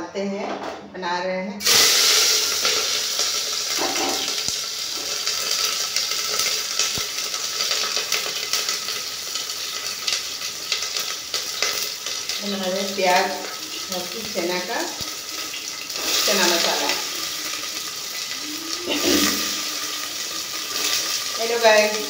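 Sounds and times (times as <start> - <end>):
onions and potatoes sizzling in oil: 1.6 - 22.0.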